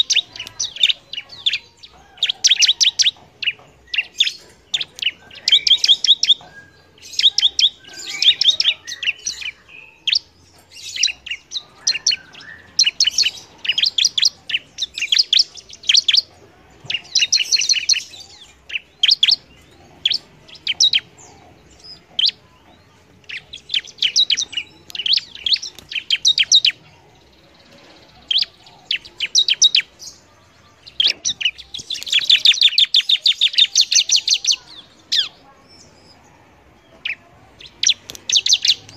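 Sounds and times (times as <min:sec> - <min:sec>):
bird singing fast trills: 0:00.0 - 0:36.2, 0:36.8 - 0:38.9.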